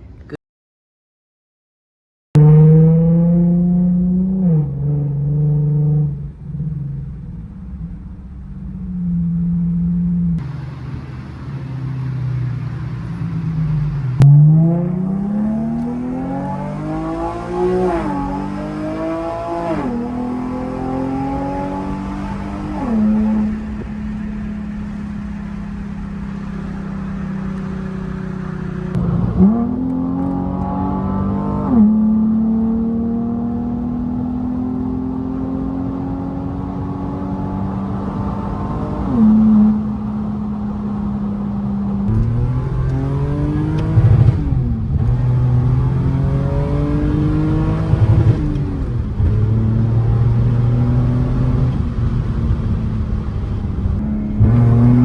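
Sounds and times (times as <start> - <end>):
car engine revving through gears: 2.4 - 6.4, 9.3 - 55.0.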